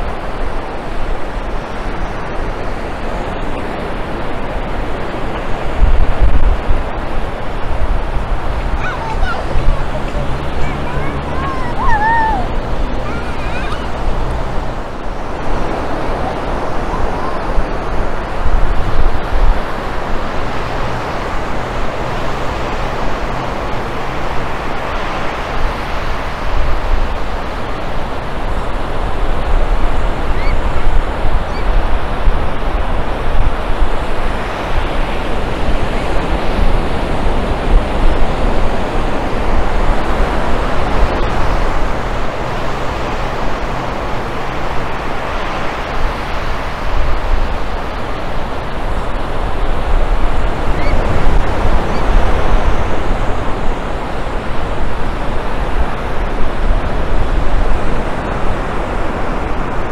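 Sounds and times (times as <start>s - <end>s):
ocean surf breaking: 0.0s - 59.9s
wind rumble on microphone: 0.0s - 59.9s.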